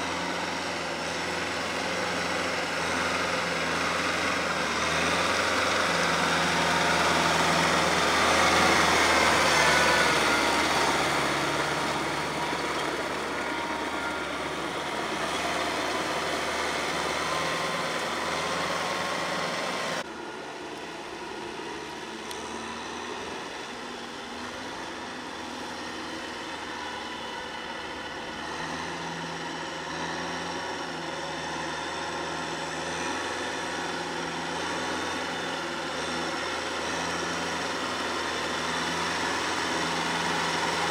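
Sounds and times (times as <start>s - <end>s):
rotary tiller churning mud: 0.0s - 21.0s, 21.6s - 40.9s
tractor diesel engine running: 0.0s - 40.9s.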